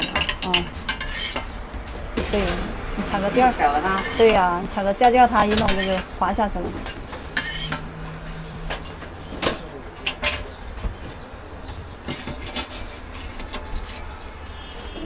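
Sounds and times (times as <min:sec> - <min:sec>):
cooking utensils knocking and scraping: 0:00.0 - 0:14.2.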